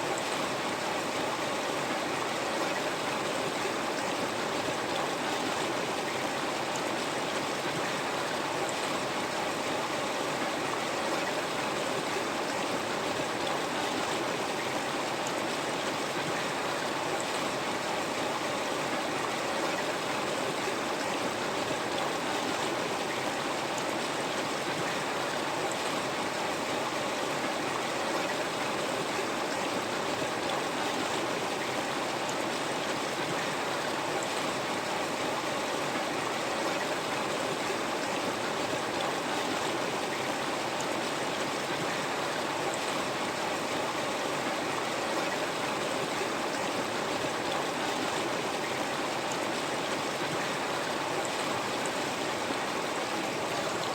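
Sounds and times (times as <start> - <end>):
river flowing: 0.0 - 53.9.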